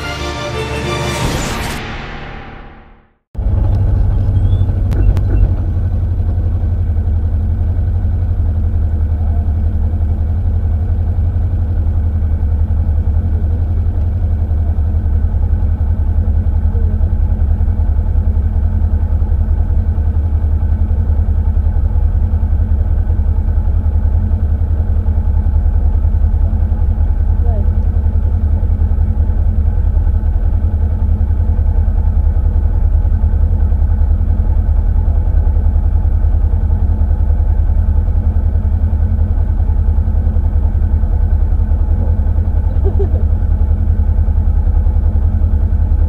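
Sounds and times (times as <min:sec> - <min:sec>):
car engine idling: 0:03.4 - 0:46.0.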